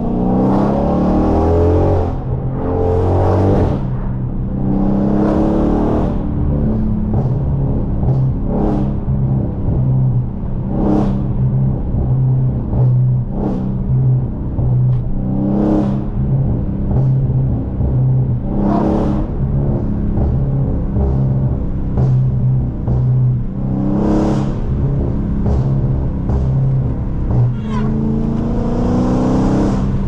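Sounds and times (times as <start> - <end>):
car engine droning while driving: 0.0 - 30.0.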